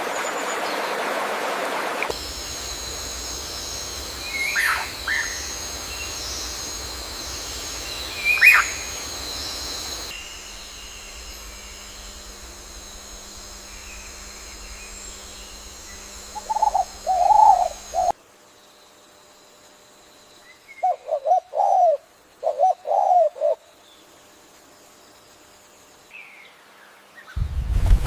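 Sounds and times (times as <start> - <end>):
quiet natural background: 0.0 - 28.0.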